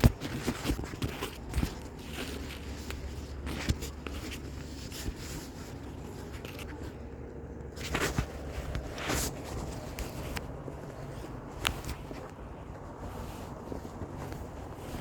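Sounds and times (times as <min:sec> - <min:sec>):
knocks and scuffs: 0:00.0 - 0:15.0
steady low rumble: 0:00.1 - 0:15.0.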